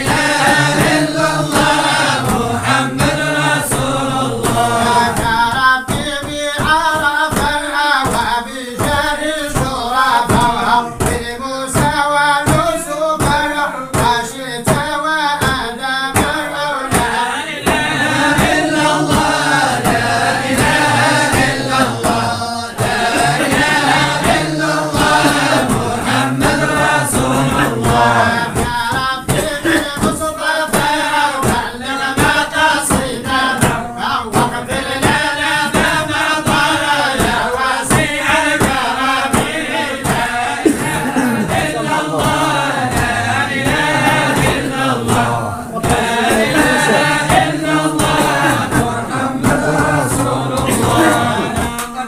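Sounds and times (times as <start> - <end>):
sharp percussive strokes: 0.0 - 14.1, 16.2 - 51.8
group singing a chant: 0.0 - 52.0.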